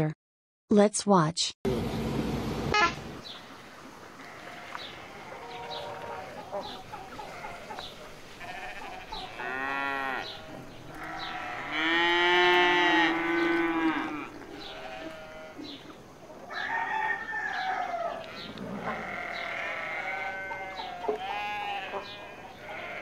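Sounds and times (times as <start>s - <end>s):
farm animal calling: 4.2s - 23.0s.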